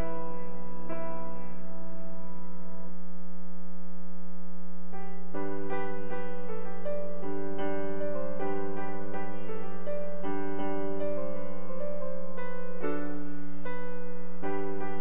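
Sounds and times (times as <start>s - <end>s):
grand piano playing: 0.0s - 2.9s, 4.9s - 15.0s
steady low hum: 0.0s - 15.0s.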